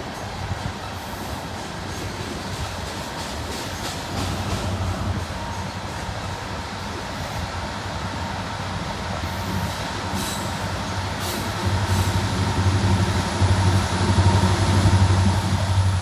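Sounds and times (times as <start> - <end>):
locomotive engine drone: 0.0 - 16.0
train rolling past: 0.0 - 16.0.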